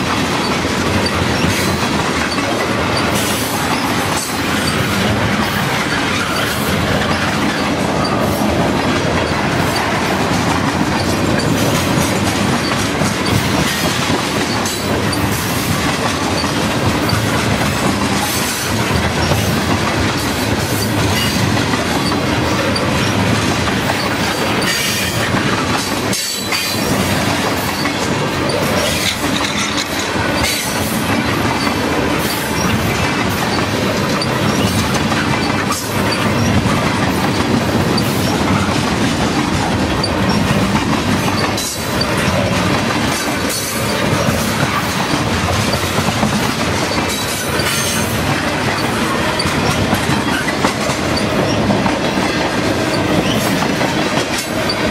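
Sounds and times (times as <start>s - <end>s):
freight train wheels rumbling: 0.0s - 54.9s
wheels clacking over track joints: 0.0s - 54.9s.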